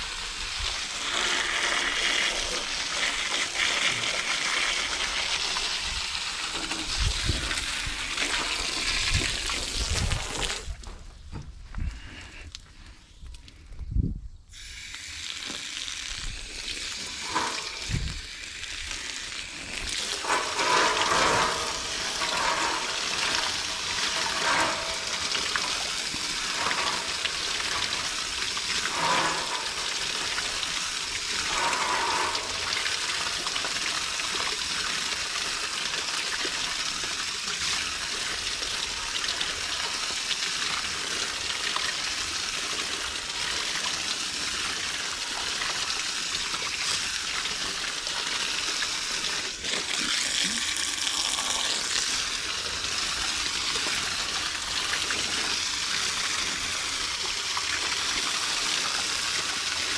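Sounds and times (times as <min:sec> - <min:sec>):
hose spraying water on metal coils: 0:00.0 - 0:10.8, 0:14.5 - 0:59.9.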